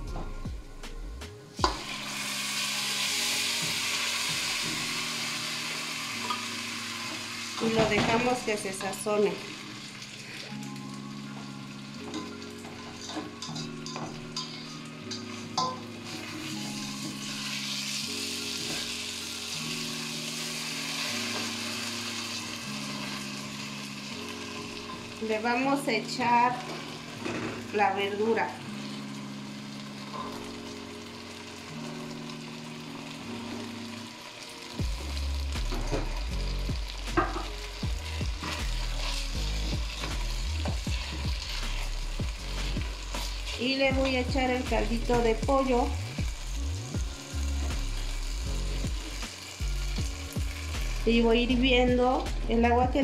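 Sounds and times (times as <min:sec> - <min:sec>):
background music: 0:00.0 - 0:53.0
rice sizzling in pot: 0:01.6 - 0:52.4.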